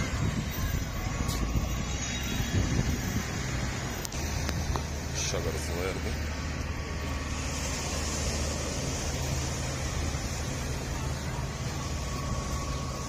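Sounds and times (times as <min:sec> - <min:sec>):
car driving along road: 0:00.0 - 0:13.0.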